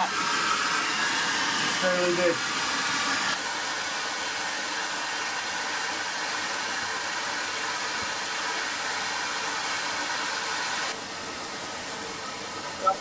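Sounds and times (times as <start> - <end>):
vacuum rushing hiss: 0.0 - 13.0.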